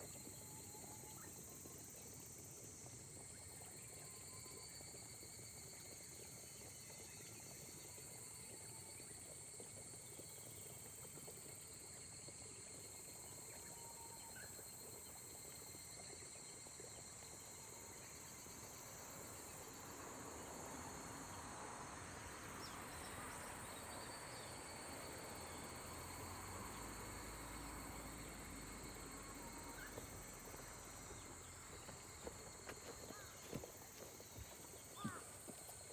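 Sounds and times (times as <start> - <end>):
insects trilling: 0.0 - 35.9
light rain hiss: 0.0 - 35.9.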